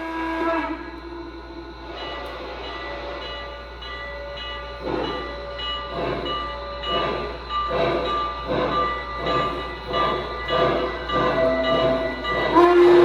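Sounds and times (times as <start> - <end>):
model train steam chuffs: 0.0 - 13.0.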